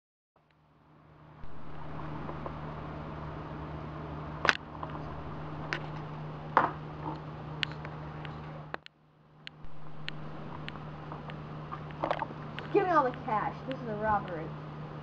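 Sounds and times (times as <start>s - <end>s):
steady low hum: 0.6s - 15.0s.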